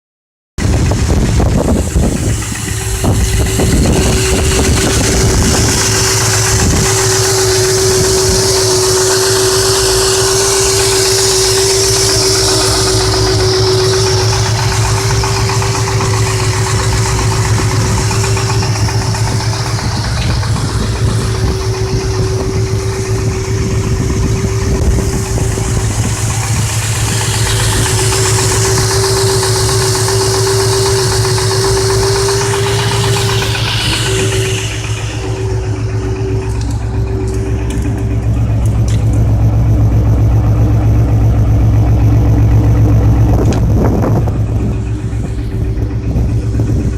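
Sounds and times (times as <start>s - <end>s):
car engine idling with rod knock: 0.6s - 46.9s
steady engine whine: 0.6s - 46.9s.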